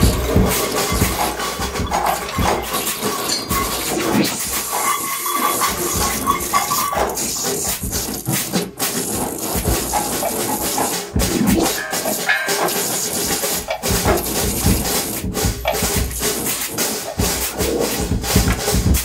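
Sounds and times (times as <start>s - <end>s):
noisy experimental music: 0.0s - 19.0s.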